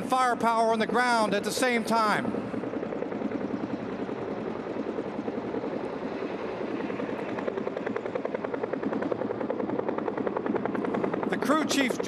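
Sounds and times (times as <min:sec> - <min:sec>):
helicopter rotor blade chop: 0:00.0 - 0:12.0.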